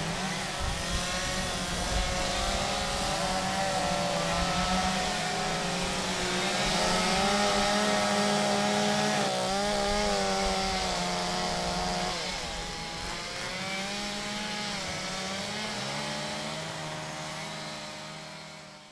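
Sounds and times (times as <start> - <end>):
chainsaws carving wood: 0.0 - 18.9.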